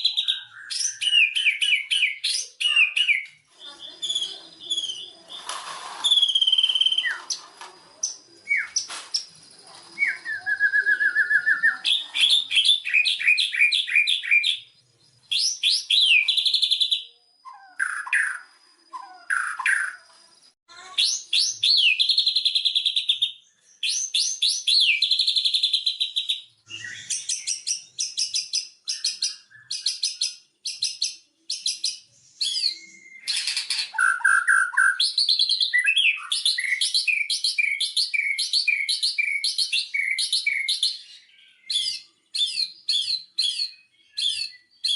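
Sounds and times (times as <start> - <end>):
bird singing varied song: 0.0 - 44.9.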